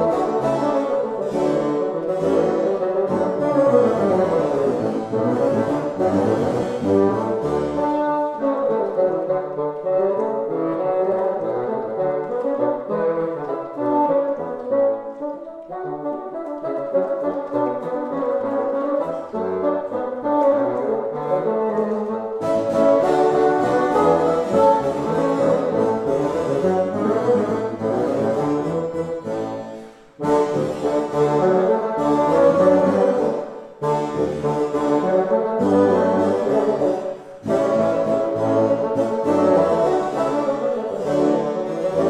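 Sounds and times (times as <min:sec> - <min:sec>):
bassoon ensemble playing: 0:00.0 - 0:42.0.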